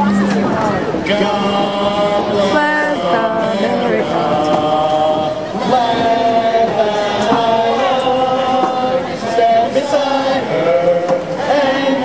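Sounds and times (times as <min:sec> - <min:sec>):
stadium crowd singing: 0:00.0 - 0:12.0.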